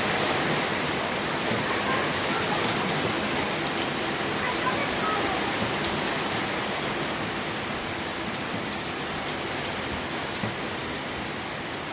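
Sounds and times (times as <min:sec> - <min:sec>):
heavy rain falling: 0:00.0 - 0:11.9.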